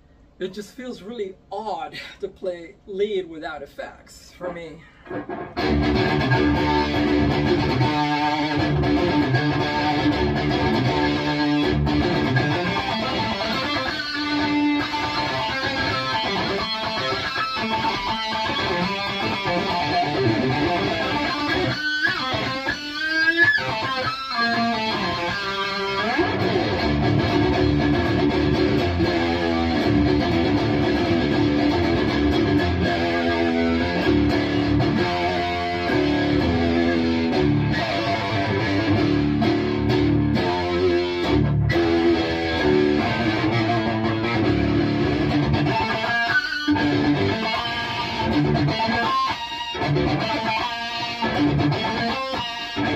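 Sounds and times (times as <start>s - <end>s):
distorted electric guitar: 5.0s - 52.9s.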